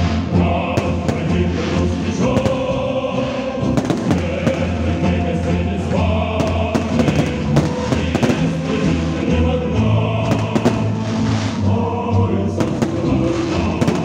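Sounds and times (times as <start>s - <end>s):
choral music: 0.0s - 14.0s
fireworks bursting: 0.6s - 9.4s, 10.2s - 11.7s, 12.5s - 14.0s.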